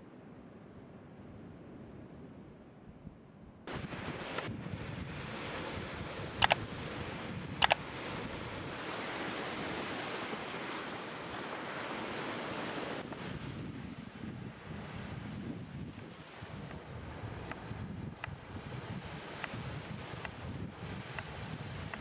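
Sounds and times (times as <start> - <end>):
wind on microphone: 1.5 - 22.0
surf breaking on beach: 3.7 - 22.0.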